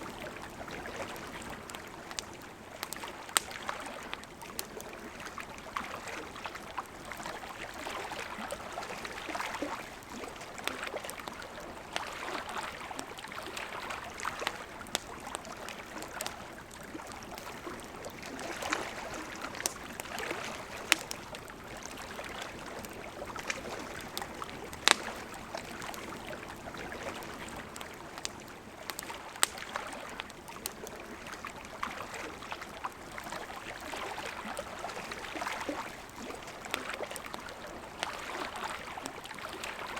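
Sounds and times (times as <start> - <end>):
campfire crackling: 0.0 - 39.9
river water running: 0.0 - 39.9.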